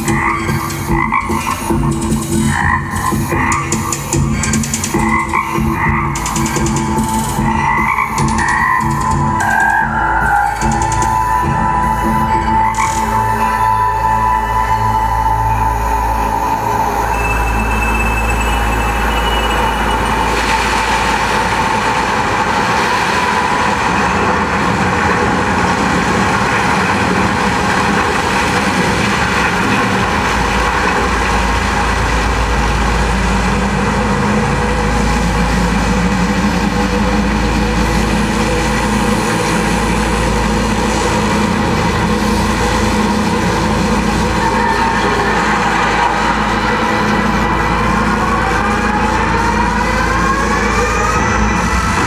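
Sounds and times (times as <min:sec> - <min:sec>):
dense rumble over loudspeakers: 0:00.0 - 0:52.0.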